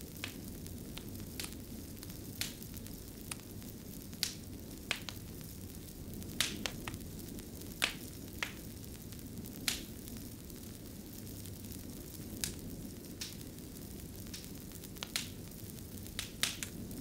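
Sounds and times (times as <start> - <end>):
logs crackling and popping: 0.0 - 17.0
low rumble of flames: 0.0 - 17.0.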